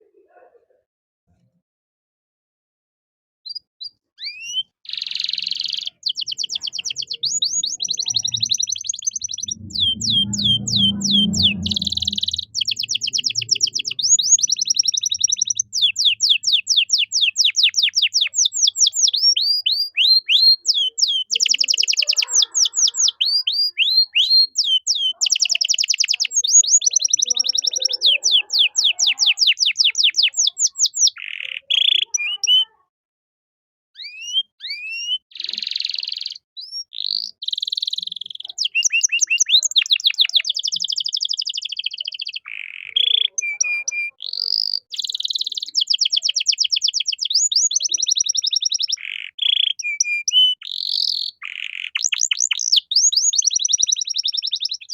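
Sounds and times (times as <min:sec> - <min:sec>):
canary singing trills: 0:03.5 - 0:32.9, 0:34.0 - 0:54.9.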